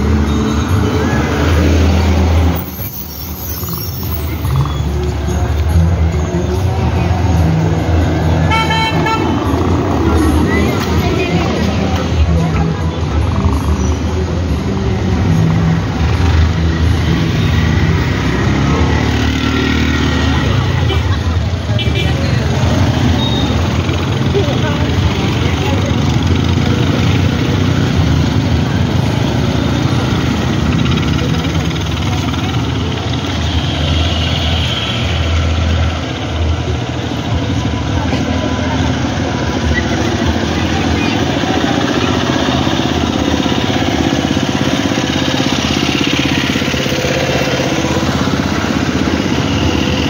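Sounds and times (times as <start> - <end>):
three-wheeler passing: 0.0 - 50.0
traffic engine drone: 0.0 - 50.0.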